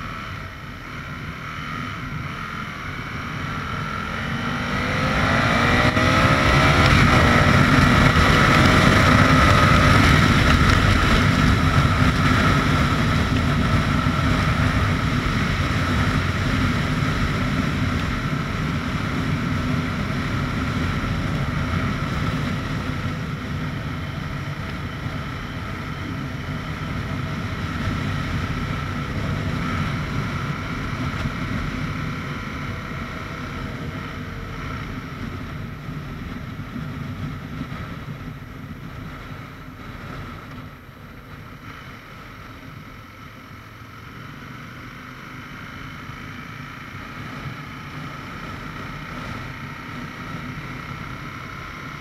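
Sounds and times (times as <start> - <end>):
wind rushing over microphone: 0.0 - 43.0
motorcycle engine running: 0.0 - 52.0.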